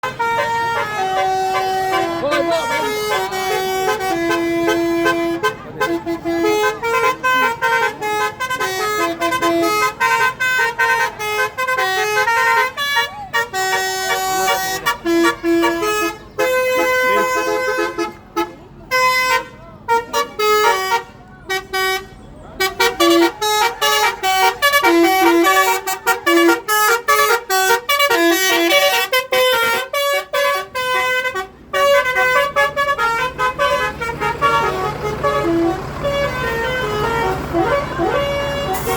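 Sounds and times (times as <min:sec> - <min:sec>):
musical air horn tune: 0:00.0 - 0:38.9.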